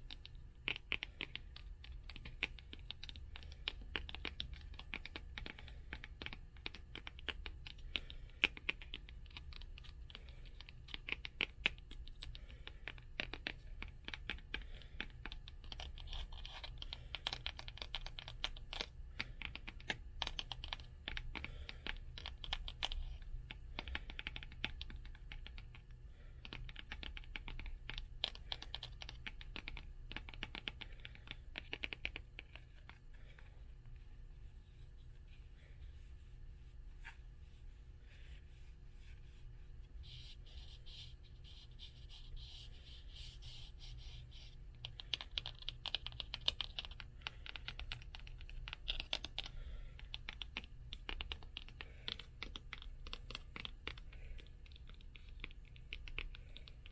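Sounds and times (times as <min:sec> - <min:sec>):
low steady rumble: 0:00.0 - 0:56.9.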